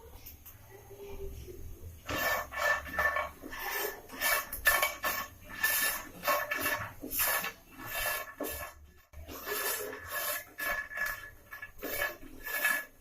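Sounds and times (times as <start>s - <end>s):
dumplings scraping in a pan: 2.0s - 13.0s.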